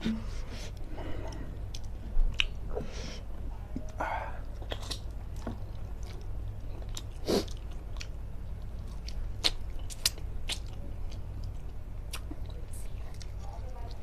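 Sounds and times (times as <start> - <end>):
steady low hum: 0.0 - 14.0
chewing and biting food: 0.1 - 2.9, 3.7 - 14.0.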